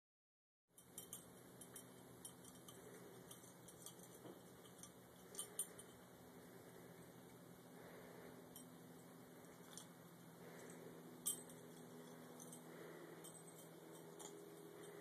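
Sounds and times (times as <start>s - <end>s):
cats eating small clicks: 0.8s - 15.0s.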